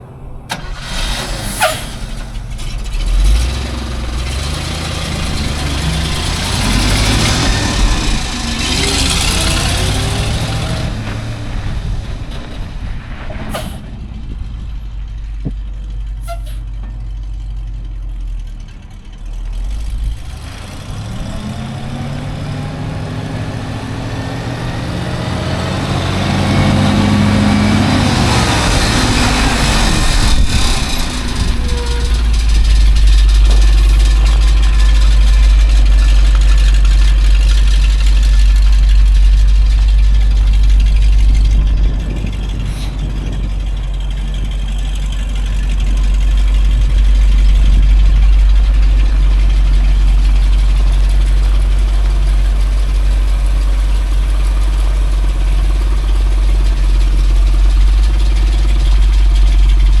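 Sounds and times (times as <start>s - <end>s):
truck engine idling: 0.0s - 60.0s.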